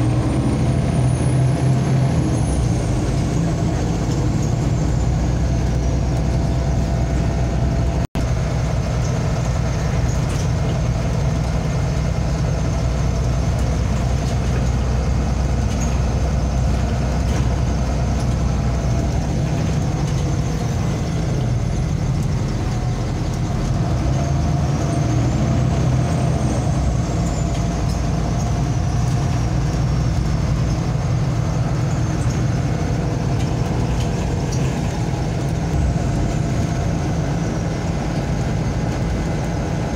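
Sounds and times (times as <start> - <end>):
bus diesel engine and road rumble: 0.0 - 39.9.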